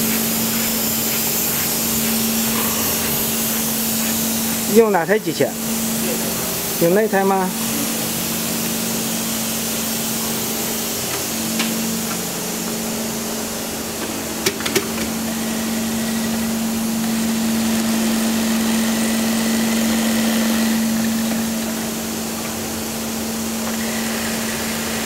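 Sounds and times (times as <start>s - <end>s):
sewing machine running: 0.0s - 25.0s.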